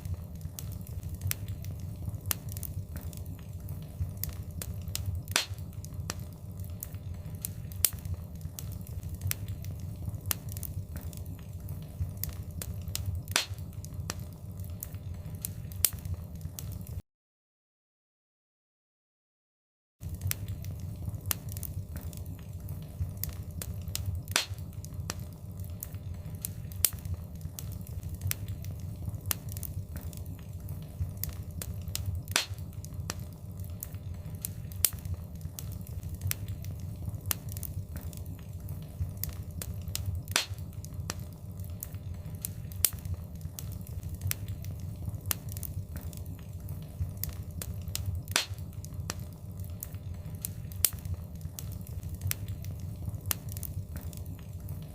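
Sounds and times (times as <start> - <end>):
fireplace fire crackling: 0.0 - 17.0, 20.0 - 54.9.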